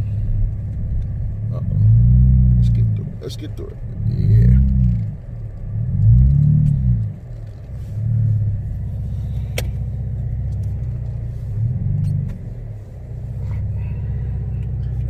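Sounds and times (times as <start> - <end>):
car engine idling: 0.0 - 15.0
car engine revving: 0.0 - 15.0.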